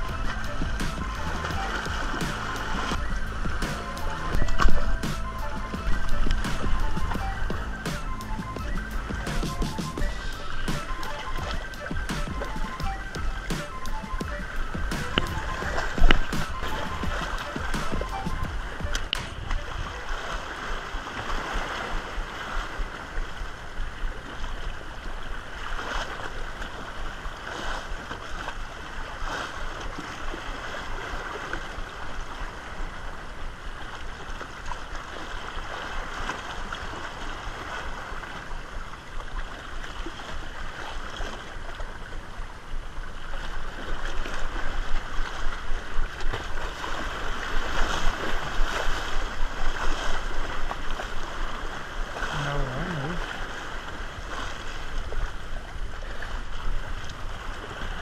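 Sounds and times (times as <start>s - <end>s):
waves splashing against rocks: 10.0s - 58.0s.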